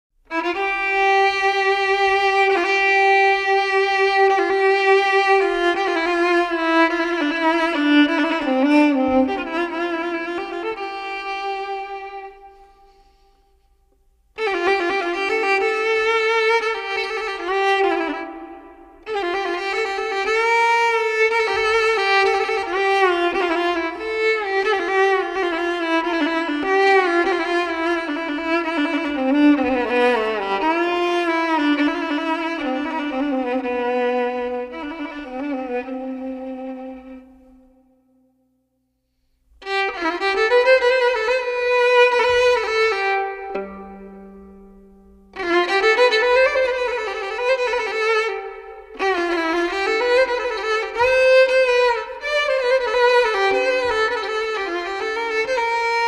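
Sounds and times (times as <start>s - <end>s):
solo violin slow melody: 0.3s - 38.0s, 39.1s - 56.0s.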